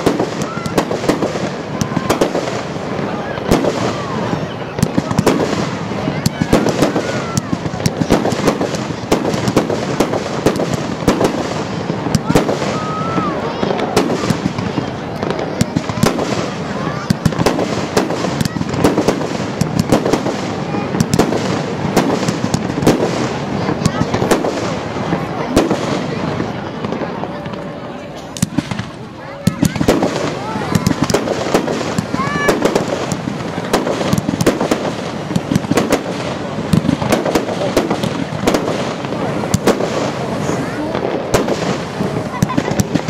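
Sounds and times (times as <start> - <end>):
continuous noisy background: 0.0 - 43.0
firework bangs: 0.0 - 43.0
steady firework crackle: 0.0 - 43.0.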